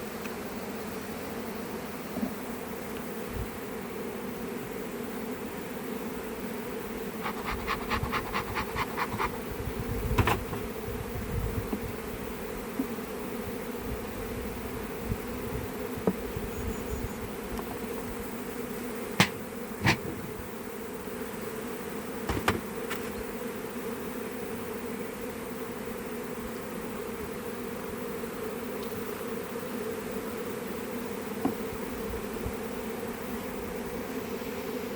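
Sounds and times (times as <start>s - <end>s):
bees buzzing: 0.0s - 34.9s.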